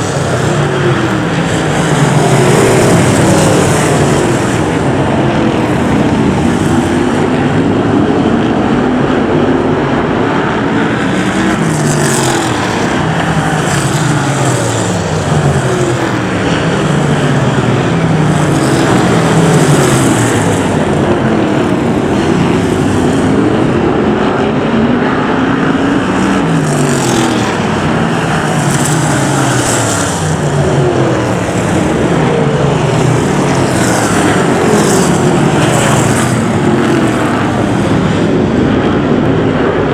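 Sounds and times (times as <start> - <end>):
racing car engines revving: 0.0 - 39.9.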